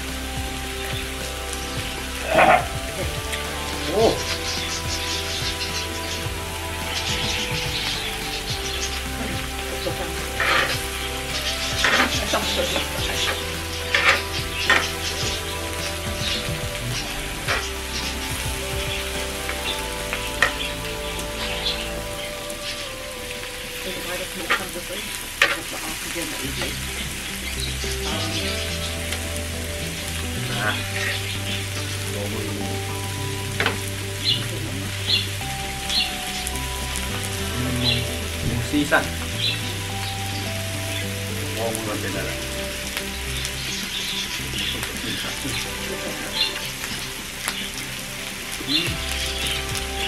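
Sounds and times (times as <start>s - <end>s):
pork sizzling on a grill pan: 0.0s - 50.0s.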